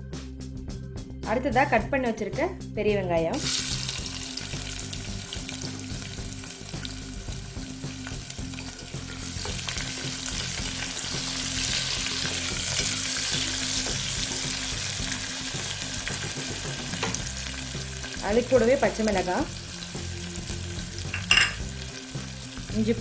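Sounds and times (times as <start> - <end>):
onions sizzling in oil: 3.4 - 23.0.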